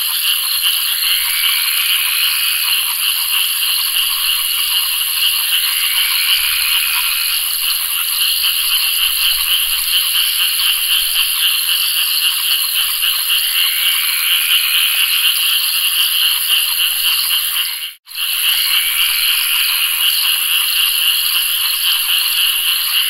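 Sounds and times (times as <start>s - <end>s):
chorus of frogs calling: 0.0s - 23.0s.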